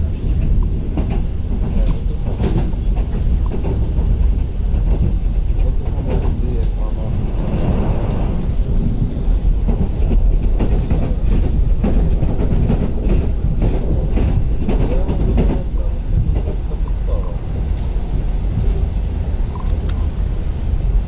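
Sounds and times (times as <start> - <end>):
train wheels rumbling on rail: 0.0 - 21.0
wheels clicking over rail joints: 0.1 - 19.0.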